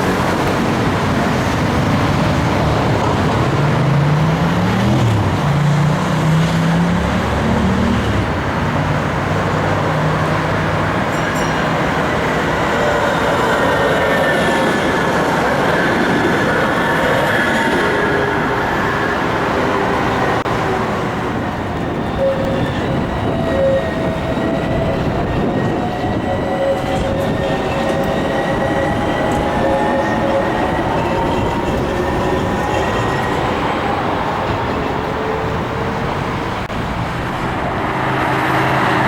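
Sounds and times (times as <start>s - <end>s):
tram rumbling on rails: 0.0s - 39.0s.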